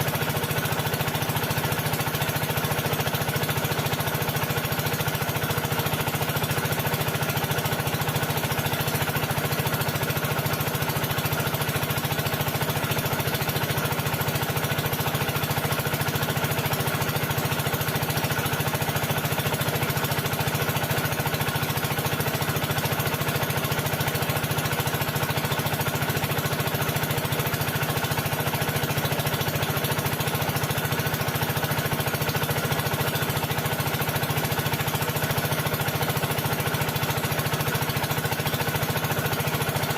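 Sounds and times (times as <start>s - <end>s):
engine running with fast pulse: 0.0s - 39.9s.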